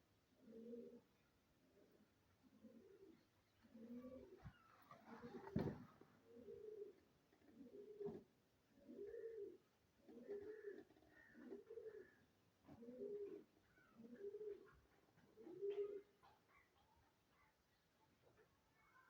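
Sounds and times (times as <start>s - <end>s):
faint bird cooing: 0.3s - 19.0s.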